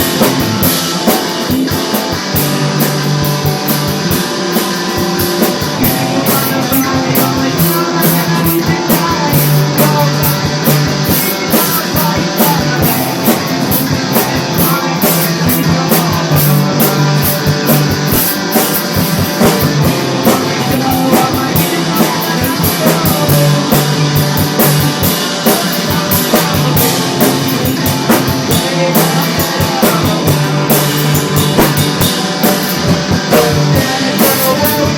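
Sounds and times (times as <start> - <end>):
rock music: 0.0 - 34.9.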